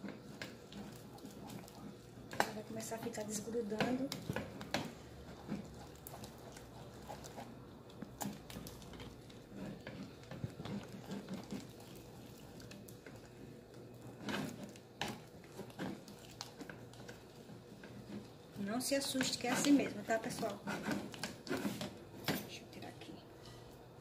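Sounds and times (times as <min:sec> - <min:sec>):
spoon stirring thick dough: 0:00.0 - 0:22.6.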